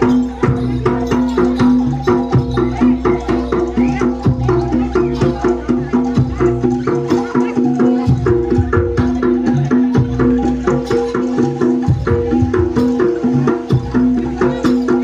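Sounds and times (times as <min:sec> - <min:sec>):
gamelan music: 0:00.0 - 0:15.0.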